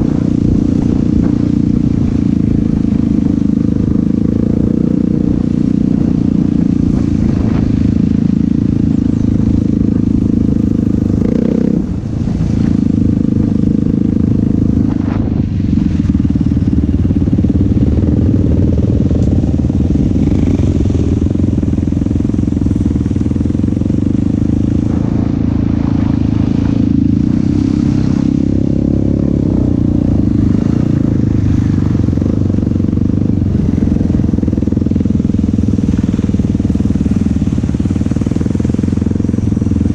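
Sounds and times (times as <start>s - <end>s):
atv engine running hard: 0.0s - 39.9s.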